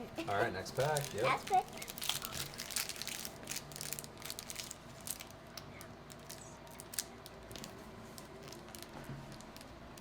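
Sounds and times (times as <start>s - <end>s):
foil wrapper tearing and crackling: 0.8s - 10.0s.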